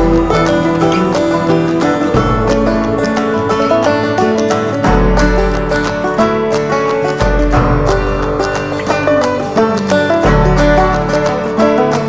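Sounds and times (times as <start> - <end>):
instrumental music with quick runs: 0.0 - 12.0.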